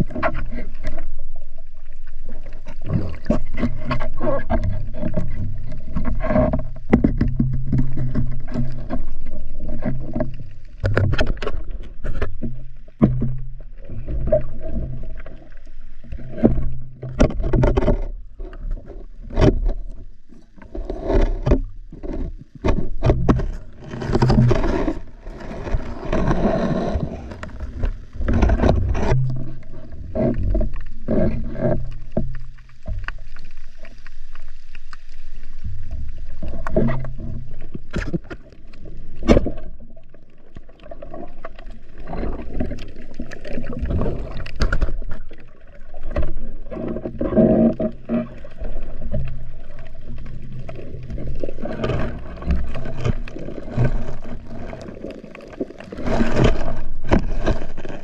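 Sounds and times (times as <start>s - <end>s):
muffled underwater rumble: 0.0s - 58.0s.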